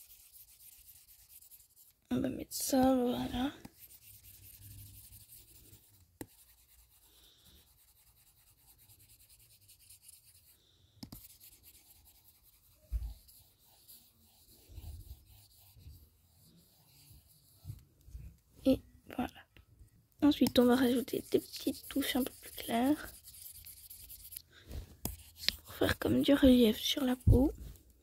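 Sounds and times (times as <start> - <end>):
drawing strokes on touchscreen: 0.0 - 17.8, 20.3 - 27.6.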